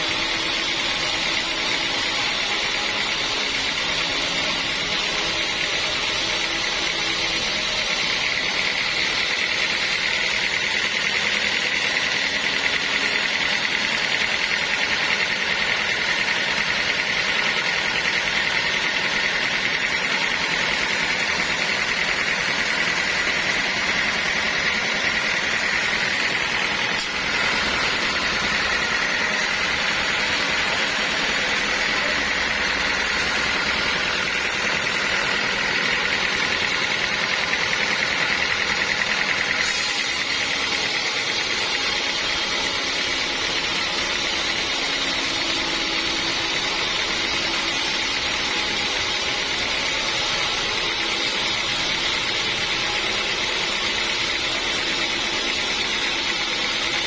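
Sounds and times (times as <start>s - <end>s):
saw cutting log with whine: 0.0s - 57.0s.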